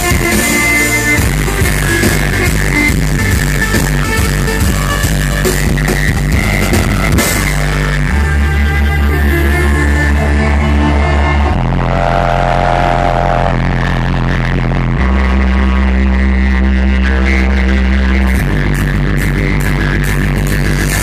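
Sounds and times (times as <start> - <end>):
amplified violin: 0.0 - 21.0
heavy pulsing bass: 0.0 - 21.0.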